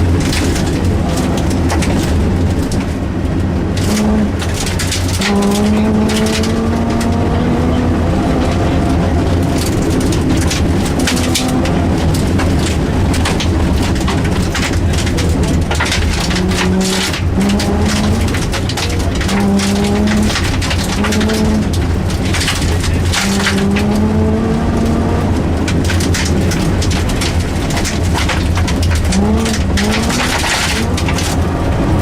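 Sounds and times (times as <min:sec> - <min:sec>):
rally car engine accelerating: 0:00.0 - 0:32.0.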